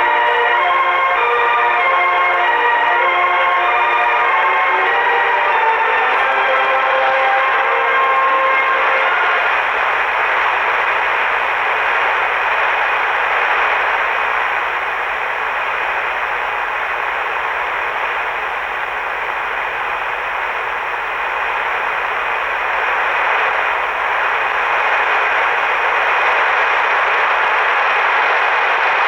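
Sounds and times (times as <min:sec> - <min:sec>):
radio static hiss: 0:04.7 - 0:29.0.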